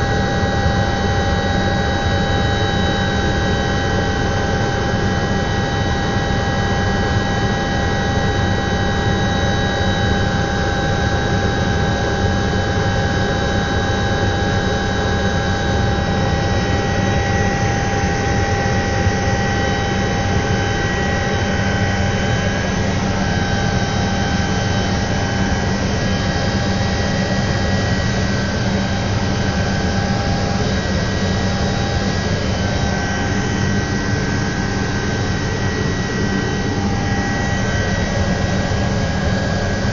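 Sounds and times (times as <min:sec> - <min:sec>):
helicopter turbine whine: 0:00.0 - 0:39.9
low rotor rumble: 0:00.0 - 0:39.9.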